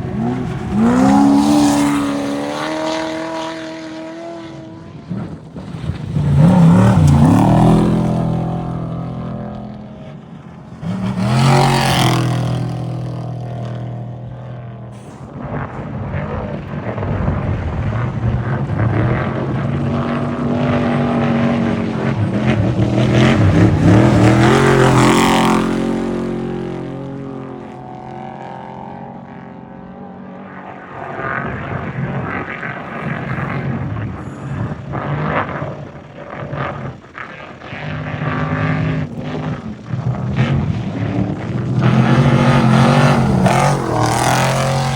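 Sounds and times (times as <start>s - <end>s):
race vehicle engines revving: 0.0s - 44.9s.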